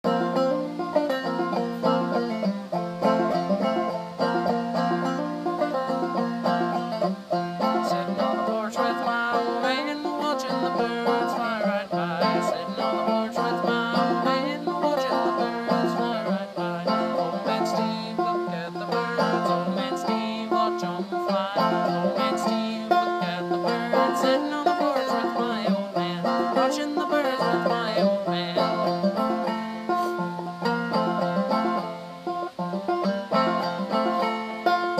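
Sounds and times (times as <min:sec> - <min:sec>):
banjo playing plucked notes: 0:00.0 - 0:34.9.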